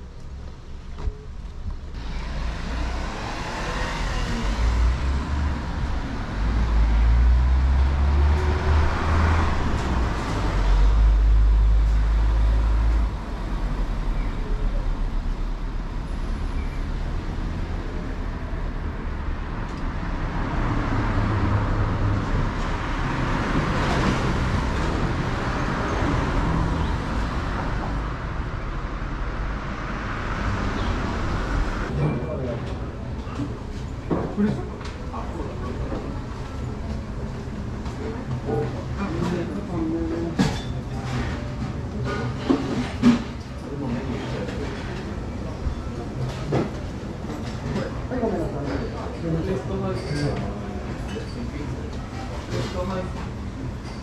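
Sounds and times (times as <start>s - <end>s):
cars passing on street: 0.0s - 54.0s.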